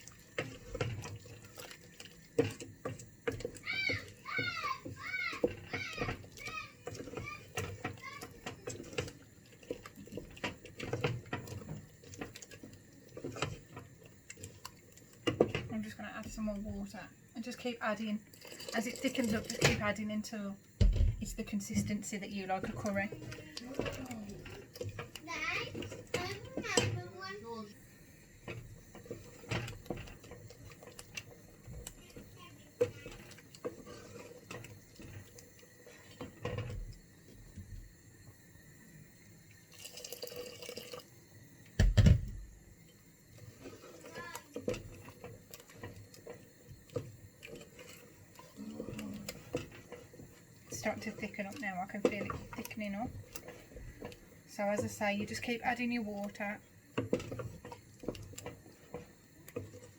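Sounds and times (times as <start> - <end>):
utensil stirring thick sauce: 0.0 - 59.9.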